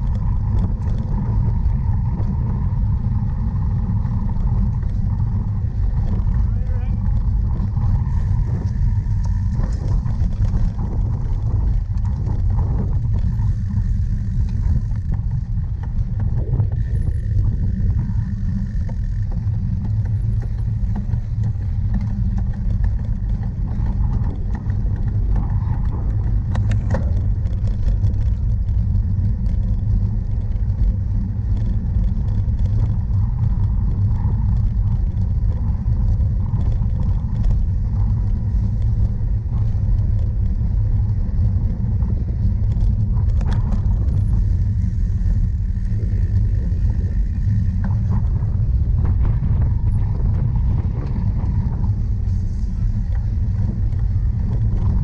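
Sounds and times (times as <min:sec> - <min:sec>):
bike rolling over rough ground: 0:00.0 - 0:55.0
wind buffeting microphone: 0:00.0 - 0:55.0.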